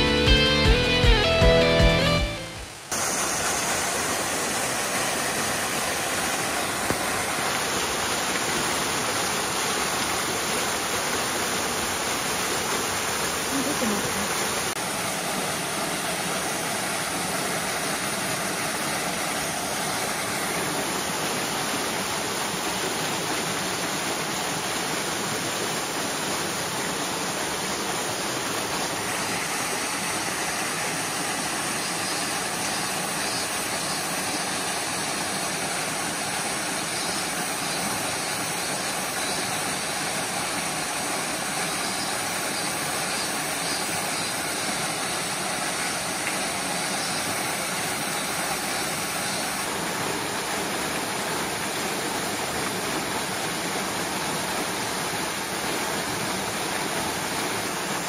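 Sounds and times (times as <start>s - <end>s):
waterfall rushing into a pool: 0.2s - 58.0s.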